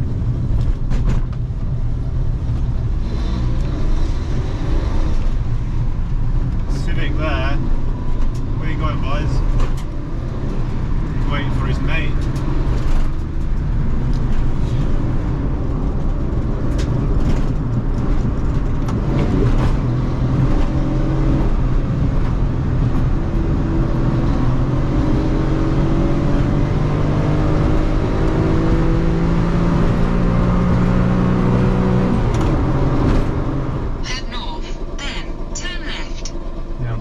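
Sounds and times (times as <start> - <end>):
car engine accelerating: 0.0 - 37.0
road noise: 0.0 - 37.0.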